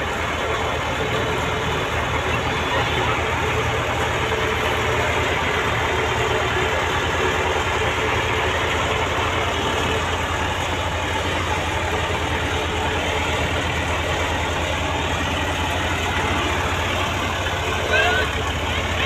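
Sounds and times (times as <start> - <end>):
tractor diesel engine chugging: 0.0 - 19.0.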